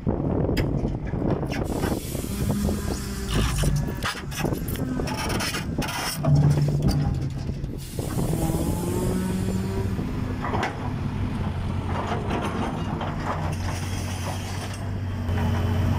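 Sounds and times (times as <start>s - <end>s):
excavator working: 0.0s - 15.9s
wheel loader diesel engine: 0.0s - 15.9s.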